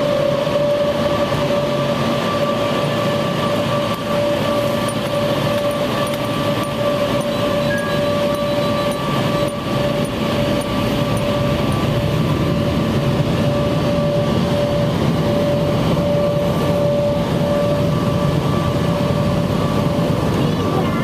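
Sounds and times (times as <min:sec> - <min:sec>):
car wash blowers whining: 0:00.0 - 0:21.0.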